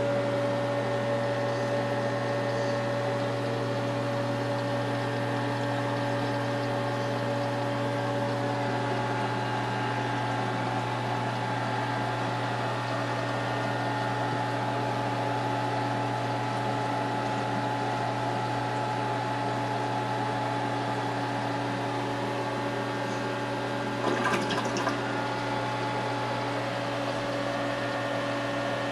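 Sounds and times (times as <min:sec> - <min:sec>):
aquarium pumps humming: 0:00.0 - 0:28.9.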